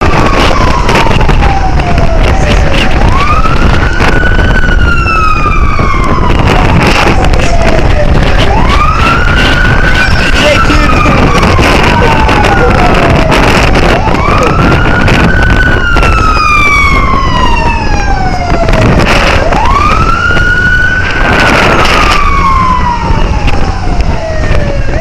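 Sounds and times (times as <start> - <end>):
low road rumble: 0.0 - 25.0
police siren wailing: 0.0 - 25.0.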